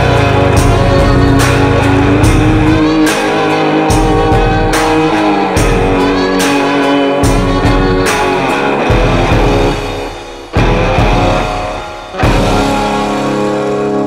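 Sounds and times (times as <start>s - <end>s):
drum hits: 0.0s - 6.6s, 7.2s - 13.6s
guitar over a steady beat: 0.0s - 14.0s.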